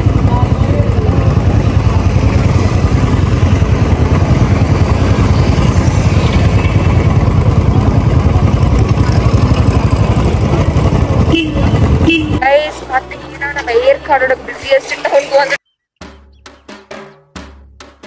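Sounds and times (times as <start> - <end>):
motorcycle engine rumble: 0.0 - 15.6.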